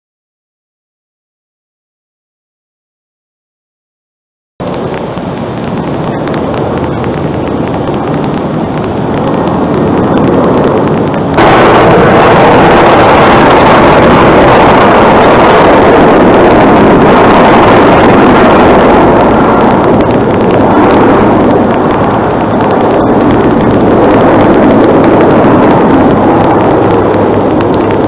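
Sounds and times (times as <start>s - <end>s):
highway traffic noise: 4.6s - 28.0s
jet aircraft roar: 4.6s - 28.0s.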